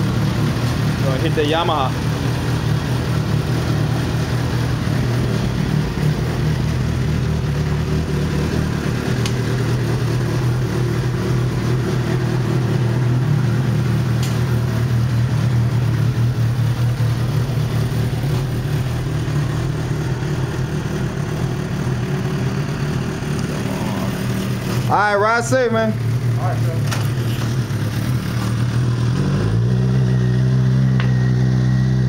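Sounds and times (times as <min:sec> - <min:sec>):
motorcycle engine idling: 0:00.0 - 0:29.2.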